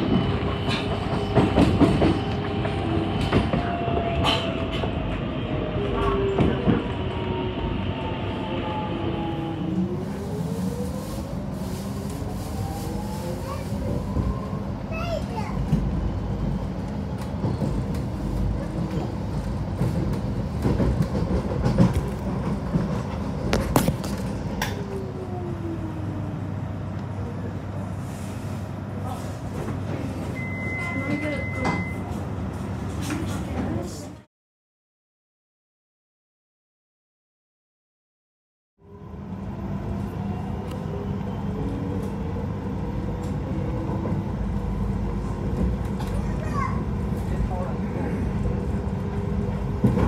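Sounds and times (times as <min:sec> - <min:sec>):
train running rumble: 0:00.0 - 0:34.2, 0:39.5 - 0:50.0.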